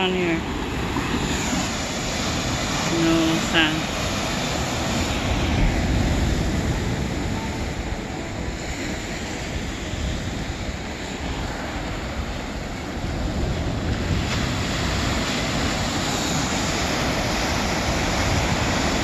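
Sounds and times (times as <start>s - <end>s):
ocean surf breaking on boulders: 0.0s - 19.0s.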